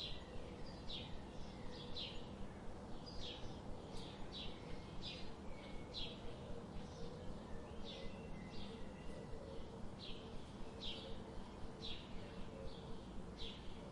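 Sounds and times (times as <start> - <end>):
steady background hiss: 0.0 - 13.9.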